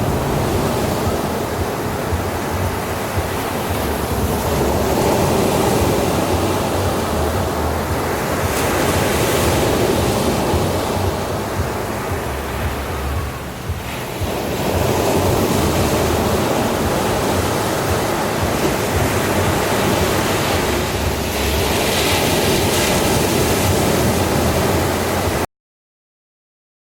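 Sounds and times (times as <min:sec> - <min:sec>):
wind on microphone: 0:00.0 - 0:25.4
ocean waves breaking: 0:00.0 - 0:25.5.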